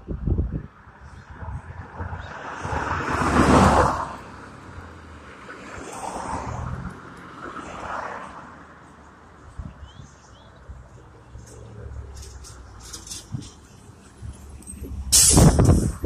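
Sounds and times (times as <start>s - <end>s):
cars passing close: 0.0s - 16.0s.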